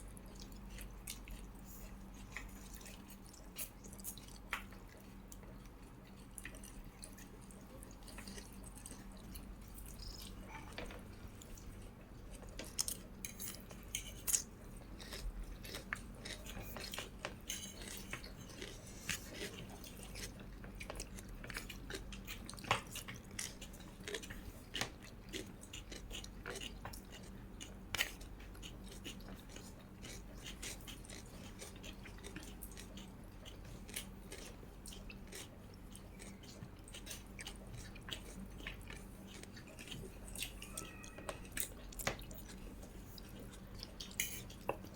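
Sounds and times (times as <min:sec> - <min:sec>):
close chewing and biting: 0:00.0 - 0:44.9
faint low hum: 0:00.0 - 0:44.9.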